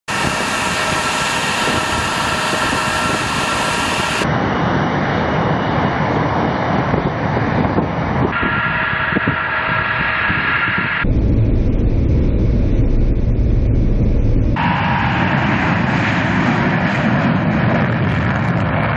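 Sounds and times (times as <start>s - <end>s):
jet engine roar with whine: 0.1s - 18.9s.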